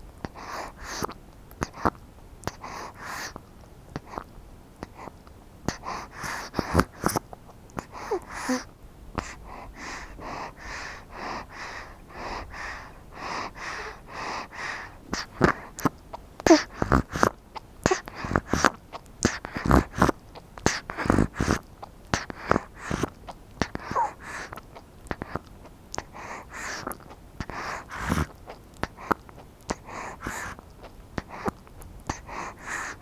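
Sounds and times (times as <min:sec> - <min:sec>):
baby sucking and breathing: 0:00.2 - 0:33.0.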